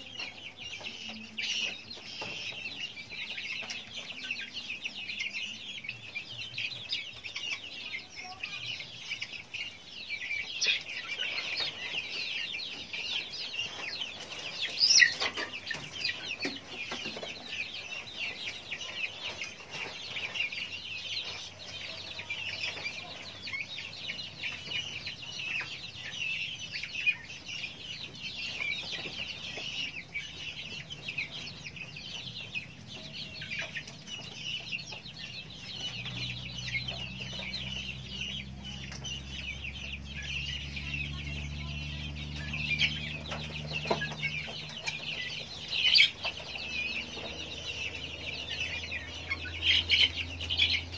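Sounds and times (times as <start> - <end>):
chicks chirping: 0.0 - 50.9.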